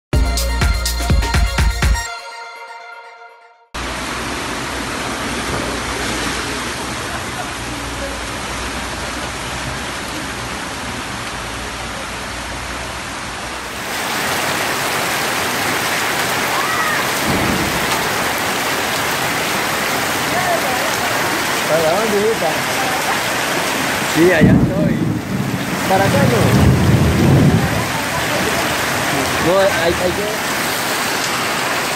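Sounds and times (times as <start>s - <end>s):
floodwater running along street: 3.8s - 31.9s
heavy rain pouring: 3.8s - 31.9s.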